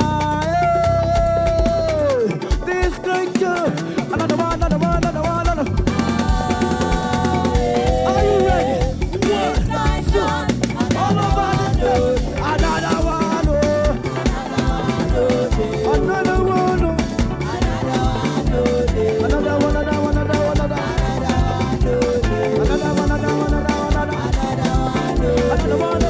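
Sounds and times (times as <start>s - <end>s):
praise band music: 0.0s - 26.0s
steady drum beat: 0.0s - 26.0s.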